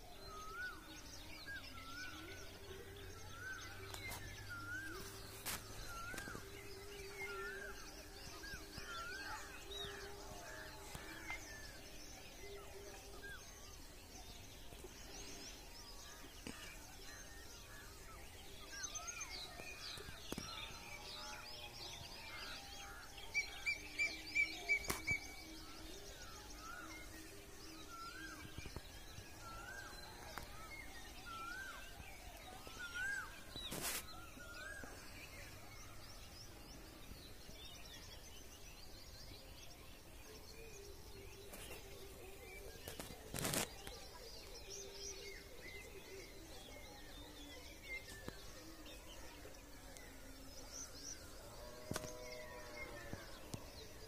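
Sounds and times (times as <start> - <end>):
birds calling and chirping: 0.0 - 54.0
faint outdoor background noise: 0.0 - 54.0.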